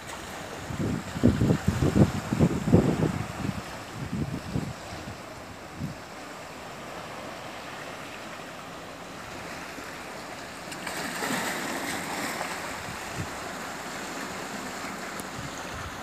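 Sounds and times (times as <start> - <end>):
waves washing against rocks: 0.0 - 16.0.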